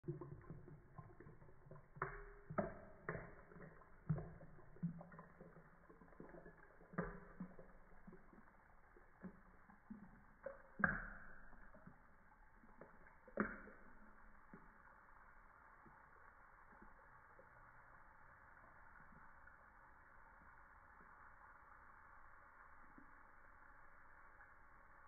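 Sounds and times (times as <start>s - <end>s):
drink pouring into a glass: 0.0s - 21.4s.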